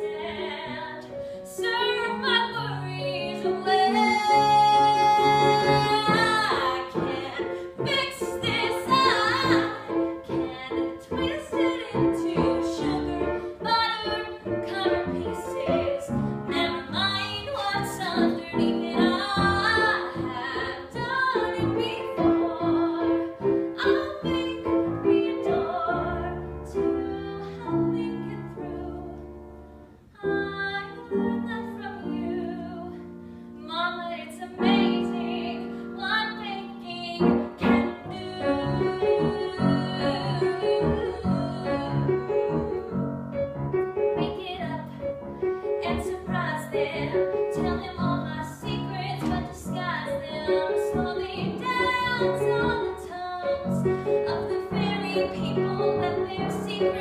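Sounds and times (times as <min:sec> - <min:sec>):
woman singing with vibrato: 0:00.0 - 0:29.2, 0:33.6 - 0:43.1, 0:45.8 - 0:57.0
piano accompaniment: 0:00.0 - 0:57.0.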